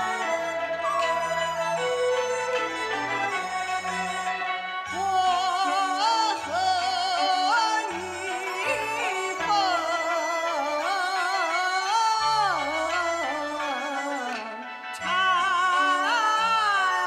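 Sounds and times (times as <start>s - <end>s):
traditional instrumental accompaniment: 0.0s - 17.0s
woman singing opera: 0.0s - 17.0s.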